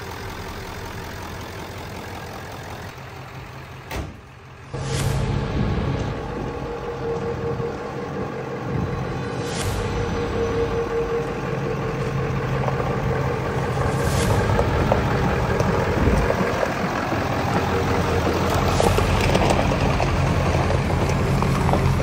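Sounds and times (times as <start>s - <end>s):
diesel engine rumbling at low revs: 0.0s - 22.0s.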